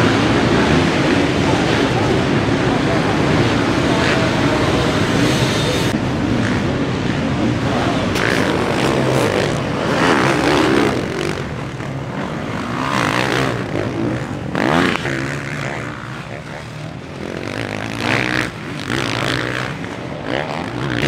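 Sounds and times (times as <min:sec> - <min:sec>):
motocross engines revving: 0:00.0 - 0:21.0.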